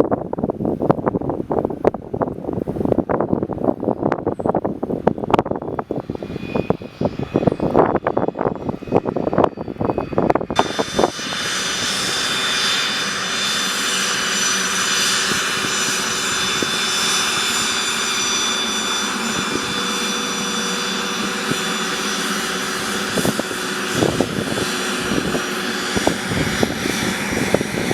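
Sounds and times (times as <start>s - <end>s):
jet engines whining: 3.6s - 27.9s.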